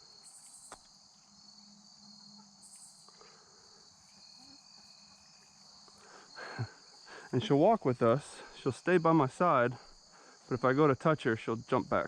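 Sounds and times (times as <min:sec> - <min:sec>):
faint chorus of crickets: 0:00.0 - 0:12.0.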